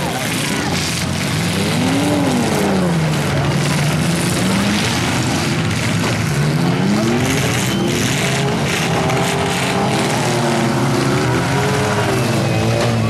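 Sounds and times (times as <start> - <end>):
car engines revving: 0.0 - 13.0
constant din: 0.0 - 13.0.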